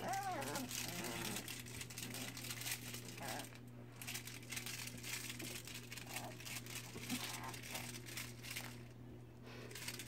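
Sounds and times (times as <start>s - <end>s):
toy shaking: 0.0s - 8.9s.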